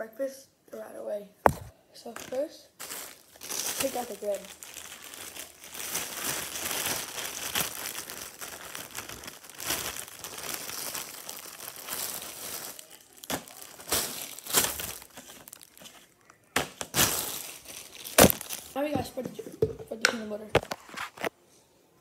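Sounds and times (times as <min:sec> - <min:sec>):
plastic bag crinkling: 0:01.5 - 0:21.3.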